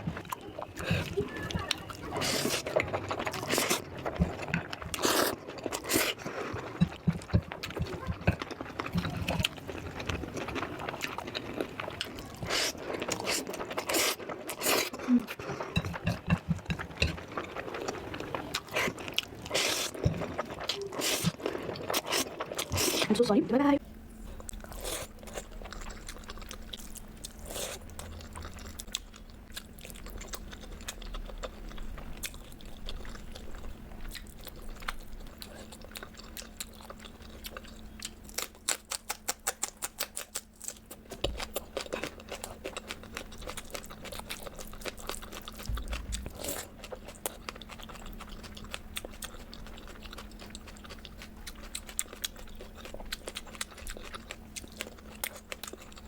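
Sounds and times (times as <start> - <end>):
chewing crunchy food: 0.0 - 23.3, 24.2 - 56.0.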